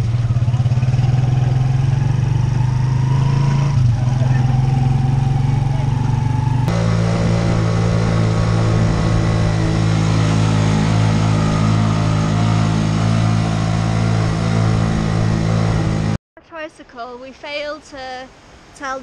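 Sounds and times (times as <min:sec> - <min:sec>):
motorcycle engine labouring uphill: 0:00.0 - 0:16.2.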